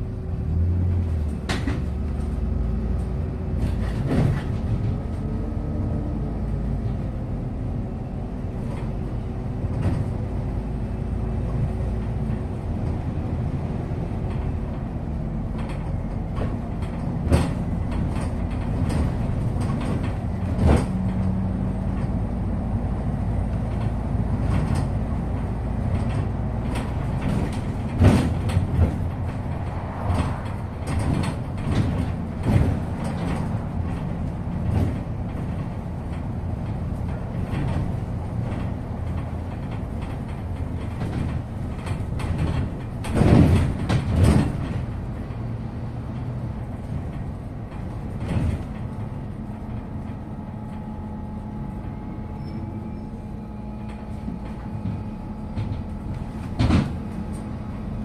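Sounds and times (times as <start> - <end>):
bus engine and road rumble: 0.0 - 58.0
faint drivetrain whine: 0.0 - 58.0
body knocks and rattles: 3.4 - 5.3, 8.6 - 50.9, 53.9 - 58.0.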